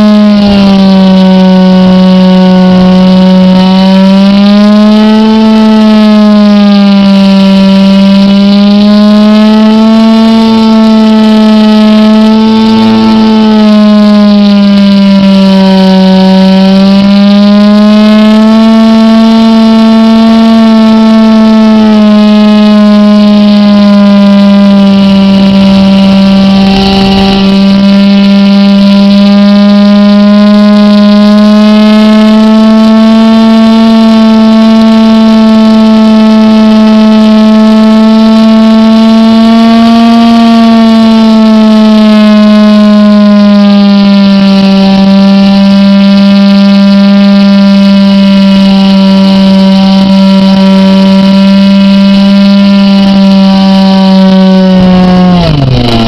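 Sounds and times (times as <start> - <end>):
model airplane engine buzzing: 0.0 - 56.0.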